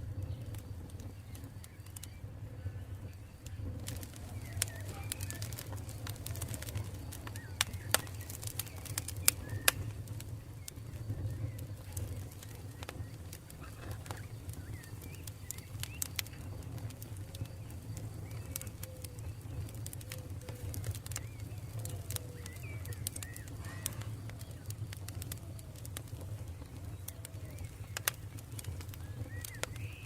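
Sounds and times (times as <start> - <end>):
campfire crackling and popping: 0.0 - 30.0
birds calling: 2.9 - 30.0.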